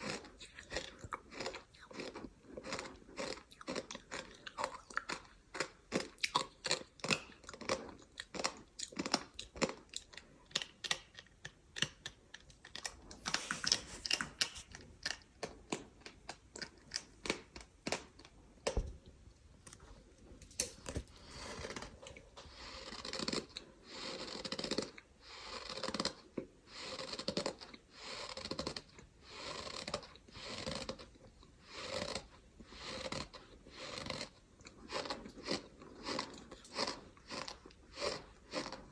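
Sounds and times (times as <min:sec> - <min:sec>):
crunchy chewing: 0:00.0 - 0:18.8, 0:19.6 - 0:38.9.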